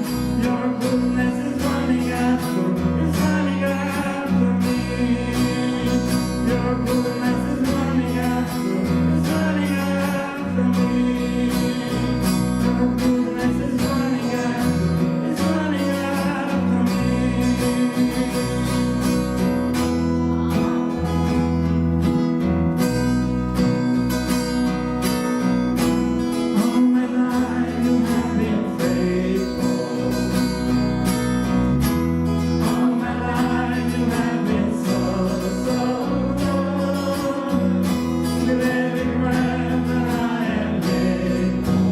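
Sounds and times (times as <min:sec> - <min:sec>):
low bass notes: 0:00.0 - 0:41.9
strummed acoustic guitar: 0:00.0 - 0:41.9.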